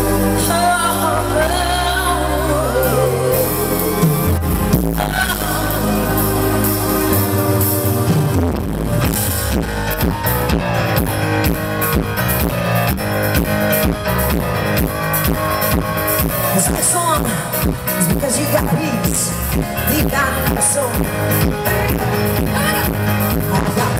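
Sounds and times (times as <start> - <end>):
synthesizer chords: 0.0 - 23.9
driving drum beat: 3.3 - 23.9.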